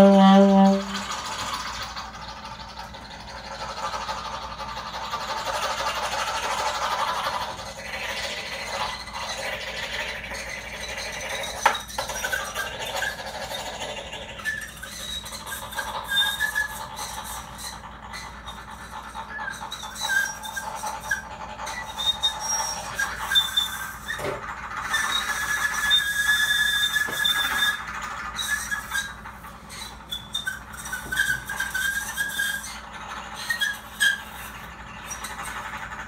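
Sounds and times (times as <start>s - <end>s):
squealing trumpet mouthpiece: 0.0s - 1.6s, 8.1s - 35.8s.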